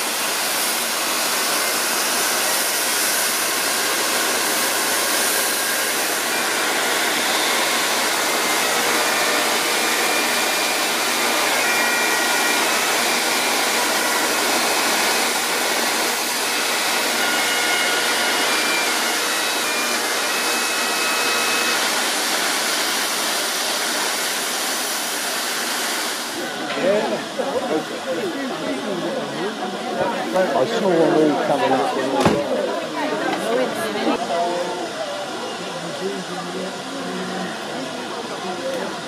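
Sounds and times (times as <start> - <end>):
steam locomotive hissing steam: 0.0 - 39.0.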